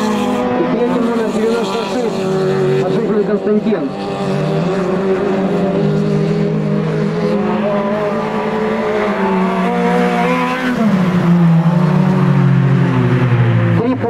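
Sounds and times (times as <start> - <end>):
race car engines at high revs: 0.0 - 14.0.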